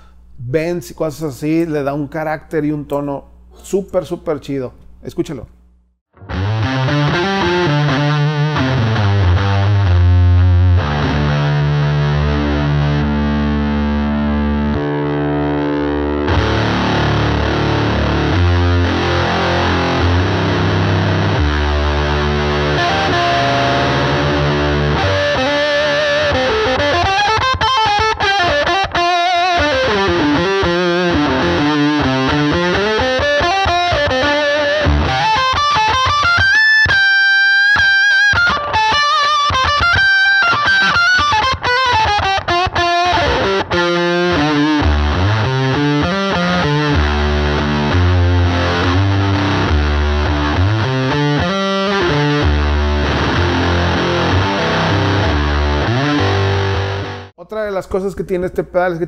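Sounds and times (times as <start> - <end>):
distorted electric guitar: 6.1 - 57.4.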